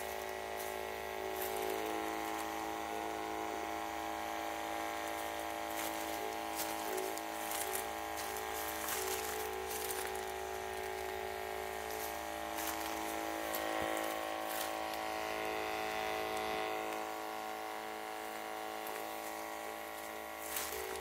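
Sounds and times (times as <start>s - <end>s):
sprayer motor whine: 0.0s - 21.0s.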